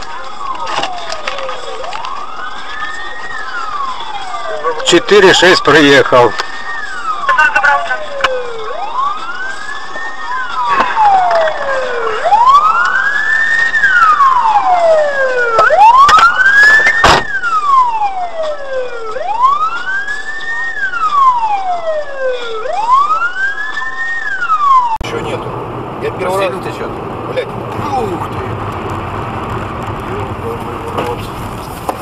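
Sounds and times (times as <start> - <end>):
police siren wailing: 0.0 - 32.0.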